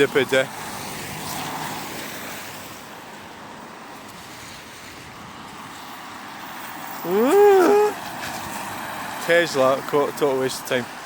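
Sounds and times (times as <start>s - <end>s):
traffic on wet roads: 0.0s - 11.0s
vehicle passing: 0.0s - 11.0s.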